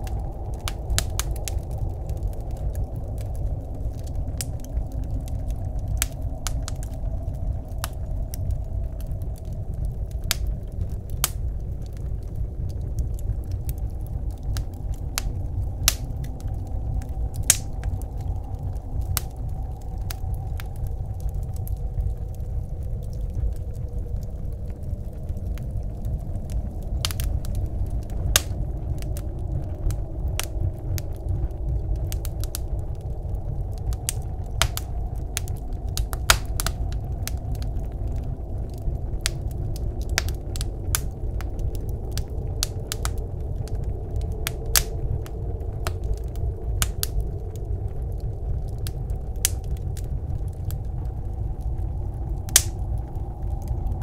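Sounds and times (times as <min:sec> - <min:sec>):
blizzard wind rushing: 0:00.0 - 0:54.0
wood fire crackling and popping: 0:00.0 - 0:54.0.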